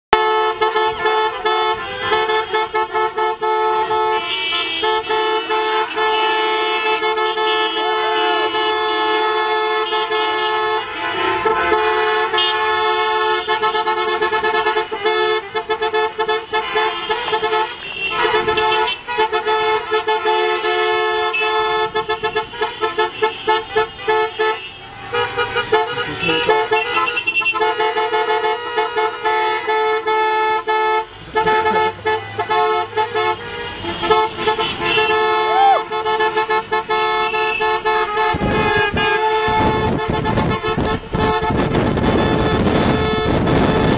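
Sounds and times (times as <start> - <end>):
car horns honking: 0.1 - 43.9.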